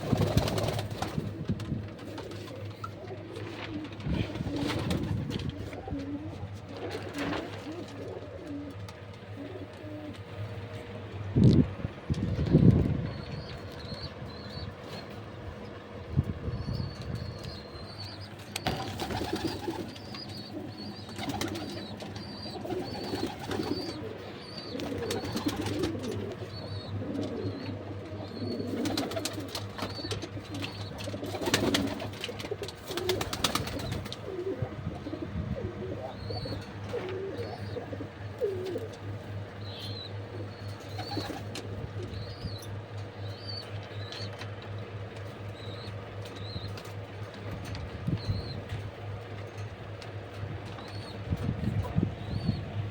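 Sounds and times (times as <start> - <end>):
pigeons cooing: 0.0 - 52.9
steady low hum: 0.0 - 52.9.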